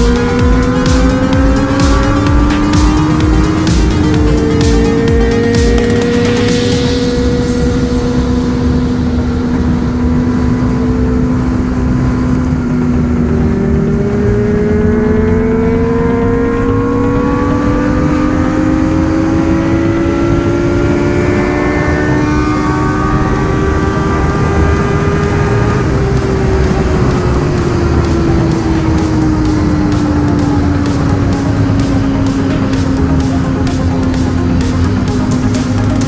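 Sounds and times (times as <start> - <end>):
low rumble: 0.0 - 17.8, 22.5 - 36.0
car engine accelerating: 0.0 - 36.0.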